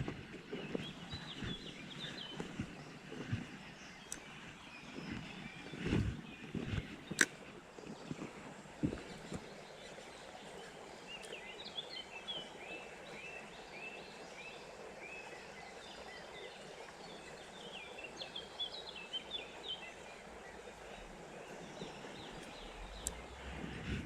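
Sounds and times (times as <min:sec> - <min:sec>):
songbird chirping: 0:00.0 - 0:24.0
stream rushing: 0:00.0 - 0:24.0.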